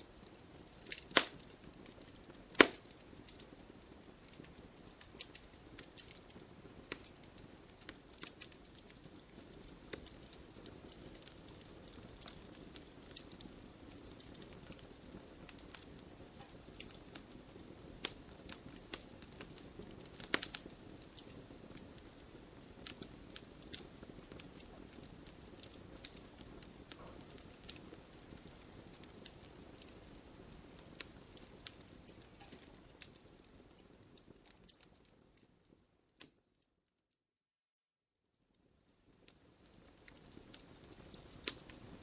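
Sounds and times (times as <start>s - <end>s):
fire crackles and pops: 0.0s - 36.6s, 38.5s - 42.0s
low rush of flames: 0.1s - 35.8s, 39.1s - 42.0s.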